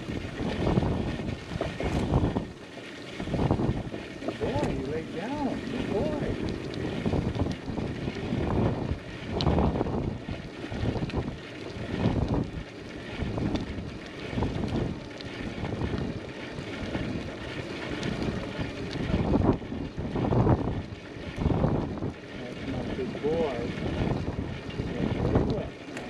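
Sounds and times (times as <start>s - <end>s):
tyres rolling on asphalt: 0.0s - 26.0s
wind noise on microphone: 0.0s - 26.0s.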